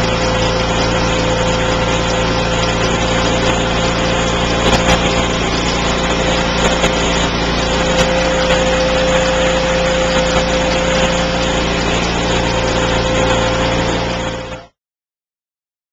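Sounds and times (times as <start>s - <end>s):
welder engine running: 0.0s - 14.8s.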